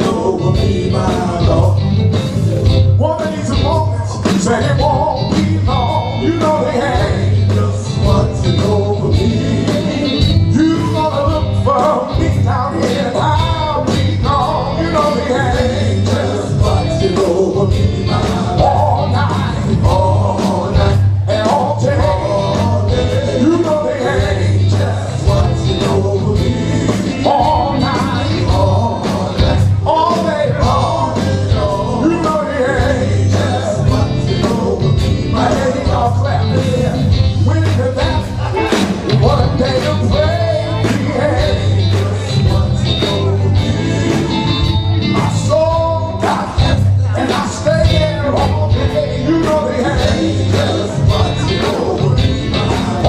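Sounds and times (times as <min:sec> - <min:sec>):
drums and bass beat: 0:00.0 - 0:53.0
man singing: 0:00.0 - 0:53.0.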